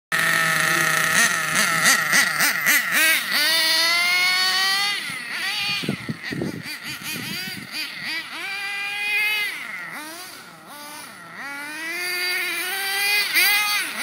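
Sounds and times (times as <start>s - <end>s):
small nitro engine revving: 0.1s - 14.0s.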